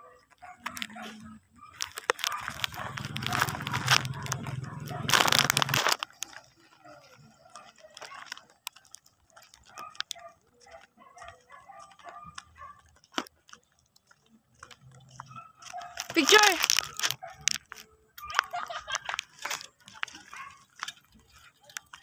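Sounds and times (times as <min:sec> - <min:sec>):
faint scattered clicks: 0:00.1 - 0:22.0.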